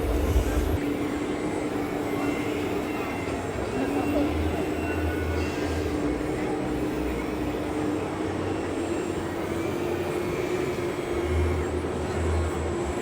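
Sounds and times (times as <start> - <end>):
model truck motor whine: 0.0 - 13.0.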